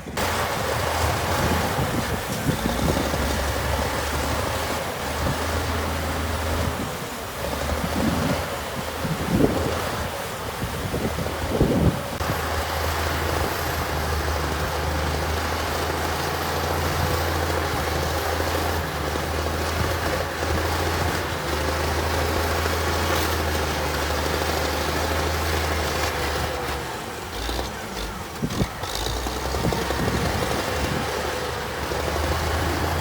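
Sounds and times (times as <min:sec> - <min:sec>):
heavy diesel engine droning: 0:00.0 - 0:33.0.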